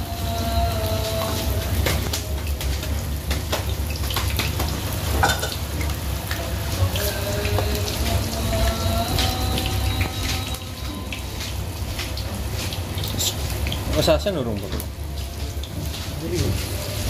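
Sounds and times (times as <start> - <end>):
battered slices sizzling in hot oil: 0.0 - 17.0.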